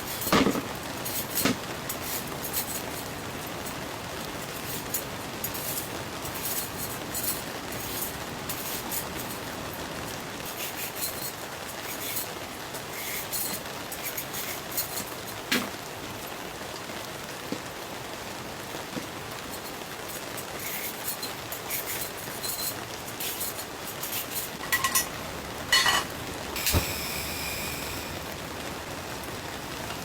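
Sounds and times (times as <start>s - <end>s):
rain and wind on a tent: 0.0s - 30.0s.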